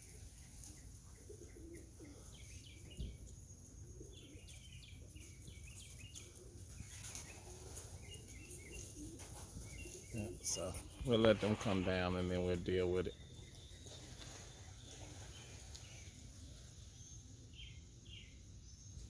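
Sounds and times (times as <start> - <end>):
pigeons cooing: 0.0 - 18.3.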